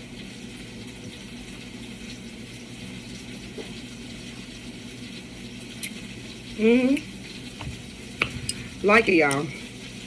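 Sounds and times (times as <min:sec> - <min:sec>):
faint sizzle of cooking: 0:00.0 - 0:10.0.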